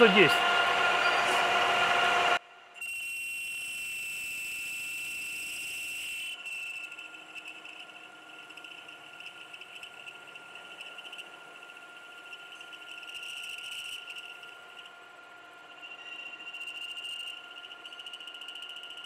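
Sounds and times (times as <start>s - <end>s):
metal lathe whining: 0.0s - 19.0s
tool squealing on spinning metal: 0.0s - 19.0s.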